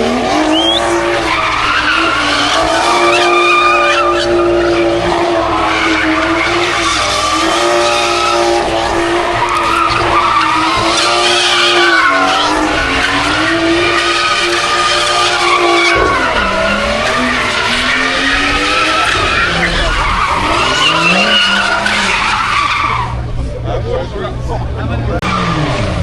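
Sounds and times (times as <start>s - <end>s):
car engine at high revs: 0.0s - 26.0s
tyres screeching: 0.4s - 23.3s.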